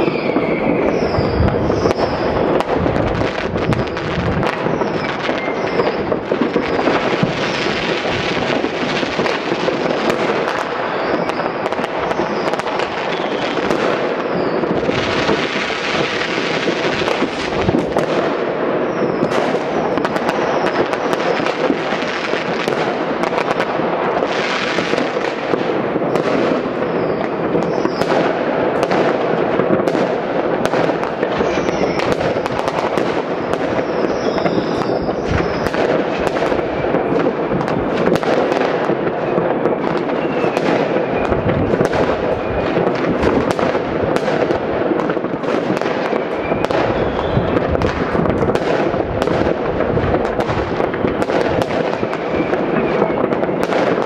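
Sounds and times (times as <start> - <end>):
firework whistles: 0.0 - 54.0
fireworks and firecrackers crackling: 0.0 - 54.0.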